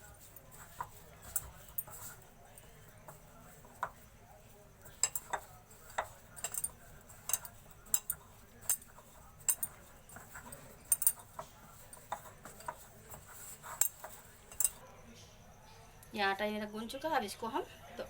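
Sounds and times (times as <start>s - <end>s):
clinks and taps against bowl: 0.0s - 14.8s
dough kneaded by hand: 0.0s - 14.8s.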